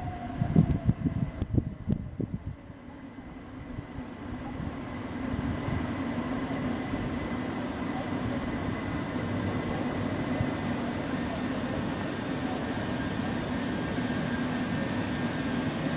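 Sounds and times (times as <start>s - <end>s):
train running through station: 0.0s - 15.9s.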